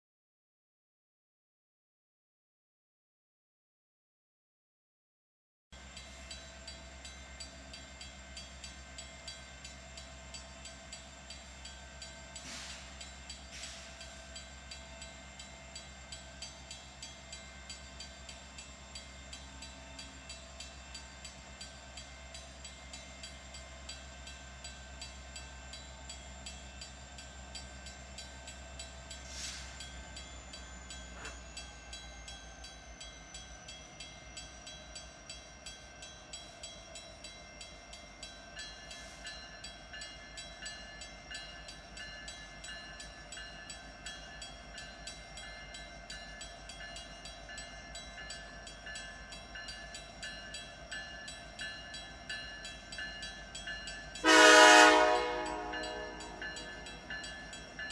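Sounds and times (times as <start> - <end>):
crossing bell ringing: 5.8 - 57.9
distant diesel locomotive hum: 5.8 - 57.9.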